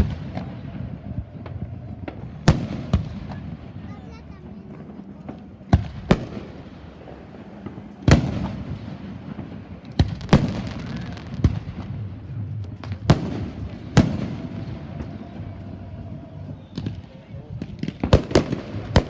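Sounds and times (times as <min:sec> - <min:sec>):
fireworks bursting with echo: 0:00.0 - 0:19.0.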